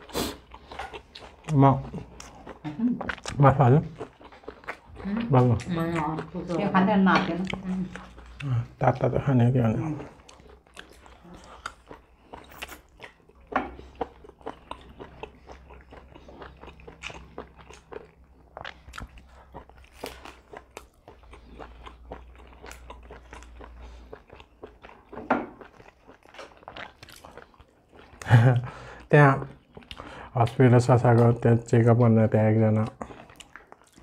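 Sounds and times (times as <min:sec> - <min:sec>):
people chewing: 0:00.0 - 0:34.0.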